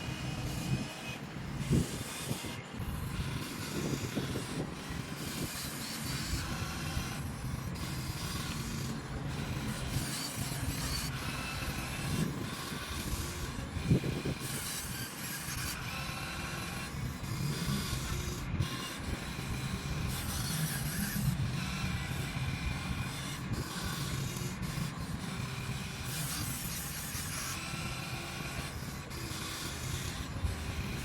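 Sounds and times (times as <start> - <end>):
small electric motors whining: 0.0 - 31.0
steady low hum: 0.0 - 31.0.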